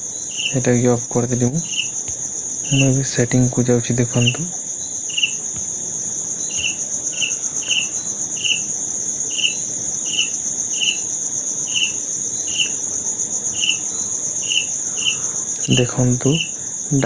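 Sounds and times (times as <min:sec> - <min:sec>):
insect high trill: 0:00.0 - 0:17.0
lower insect chirp: 0:00.0 - 0:17.0.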